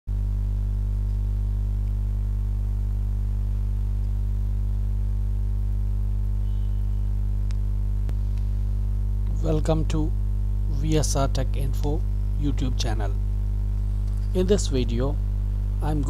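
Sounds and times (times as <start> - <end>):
electrical mains hum: 0.1 - 16.0.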